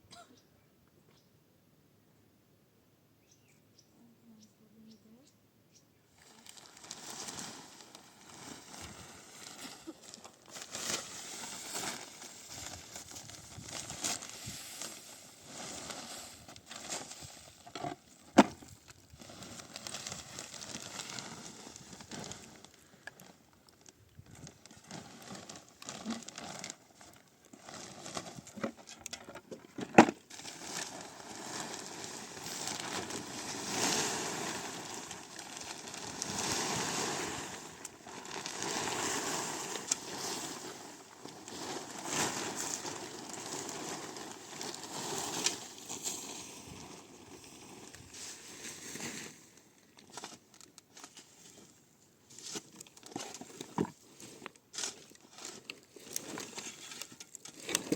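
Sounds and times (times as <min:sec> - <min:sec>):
rustling handling noise: 0:06.2 - 0:57.9.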